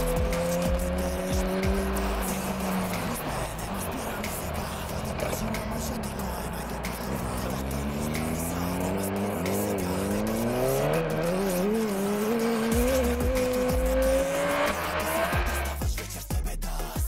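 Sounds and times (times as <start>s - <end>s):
motorcycle engine accelerating: 0.0s - 15.9s.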